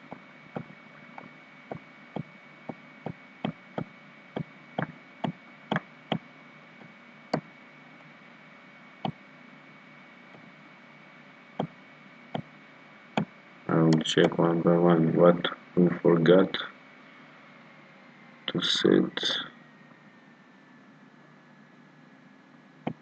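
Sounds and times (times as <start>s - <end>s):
faint background hum: 0.0s - 23.0s.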